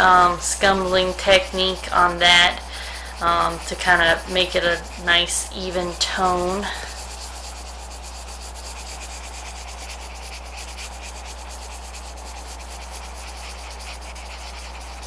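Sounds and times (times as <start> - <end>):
pencil scratching on paper: 0.0 - 15.0
steady low hum: 0.0 - 15.0.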